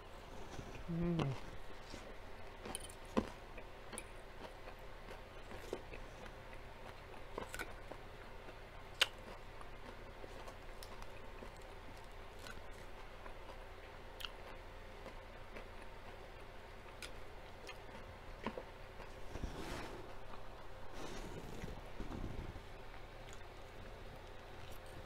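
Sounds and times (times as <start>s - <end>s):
low steady hum: 0.0s - 25.0s
chewing salad: 0.2s - 25.0s.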